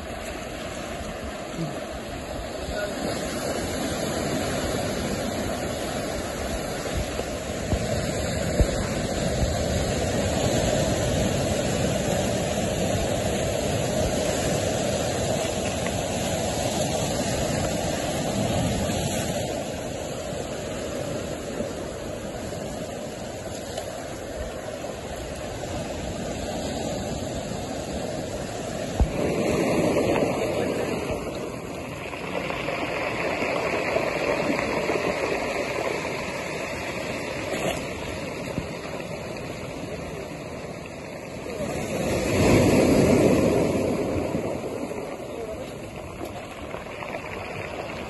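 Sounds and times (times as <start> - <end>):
ocean surf breaking on rocks: 0.0 - 48.0.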